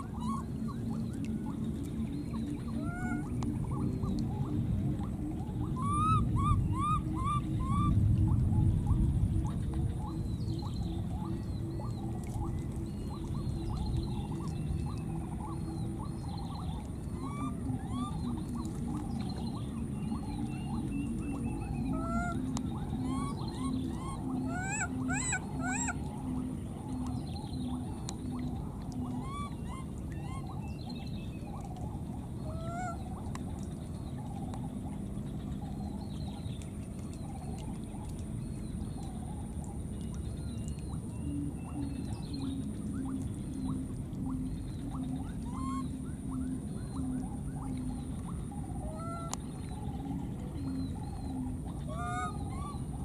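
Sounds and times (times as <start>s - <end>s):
faint high whine: 0.0s - 53.0s
steady low rumble: 0.0s - 53.0s.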